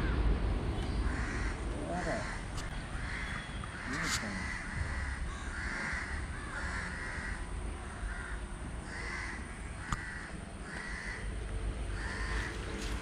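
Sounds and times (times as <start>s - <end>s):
bird calling: 0.0s - 11.3s.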